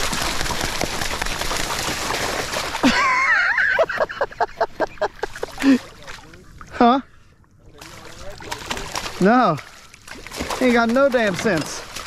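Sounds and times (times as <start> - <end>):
fish splashing water: 0.0 - 6.7, 7.7 - 12.0.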